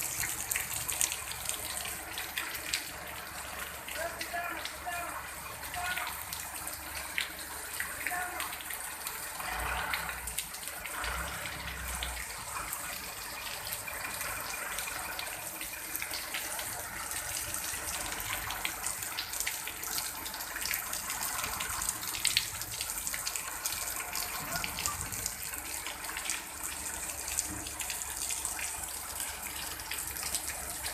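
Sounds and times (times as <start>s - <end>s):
heavy rain: 0.0s - 30.9s
raindrops splashing: 0.0s - 30.9s.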